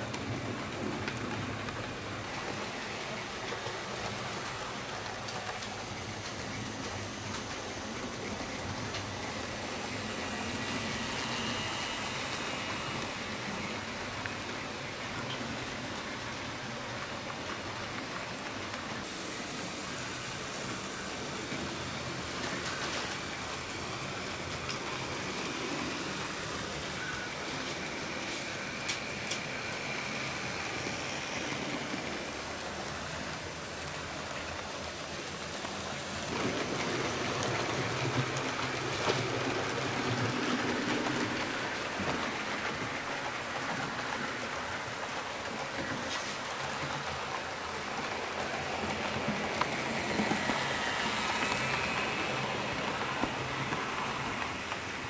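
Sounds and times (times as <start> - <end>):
model trains rolling on track: 0.0 - 55.0.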